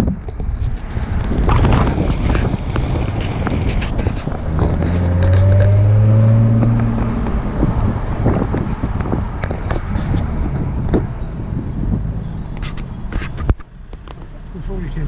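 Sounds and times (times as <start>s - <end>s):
wind buffeting microphone: 0.0s - 14.1s
car engine pulling: 0.2s - 15.0s.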